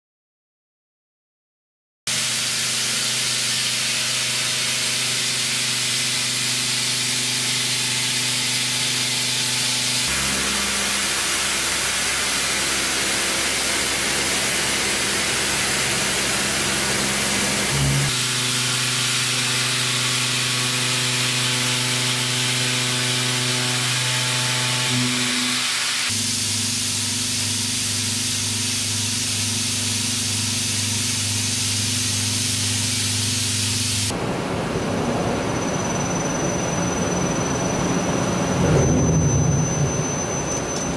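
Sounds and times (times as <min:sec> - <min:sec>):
machine hum: 0:02.1 - 0:40.9.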